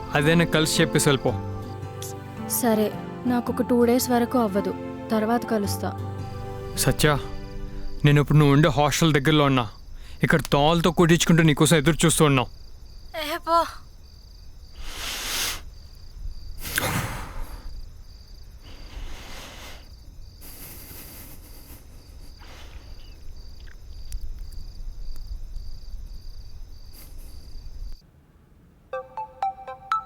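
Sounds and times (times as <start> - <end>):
crickets chirping: 0.0 - 28.1.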